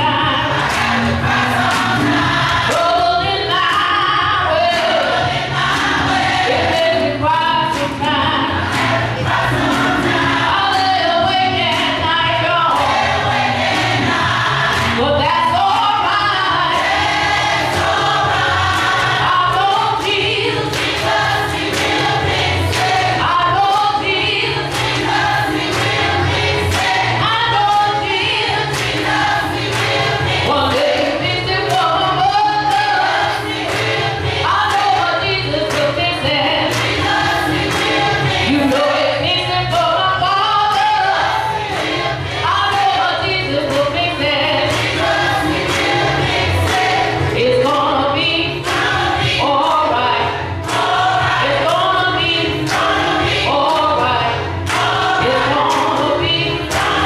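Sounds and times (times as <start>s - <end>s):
electronic keyboard: 0.0s - 57.0s
gospel choir singing: 0.0s - 57.0s.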